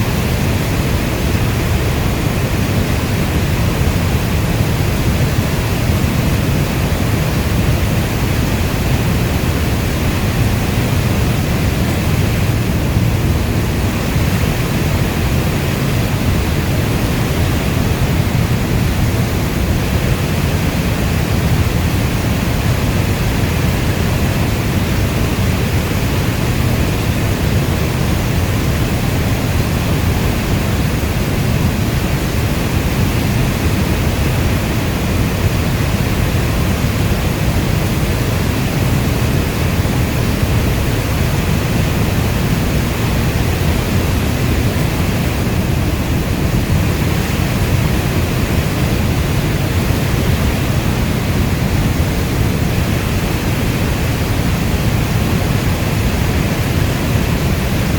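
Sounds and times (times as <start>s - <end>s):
heavy rainfall: 0.0s - 57.9s.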